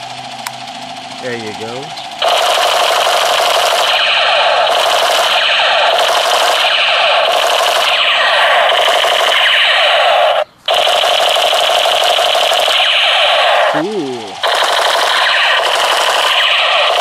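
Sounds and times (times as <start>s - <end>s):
toy machine gun sound effect: 1.2s - 17.0s.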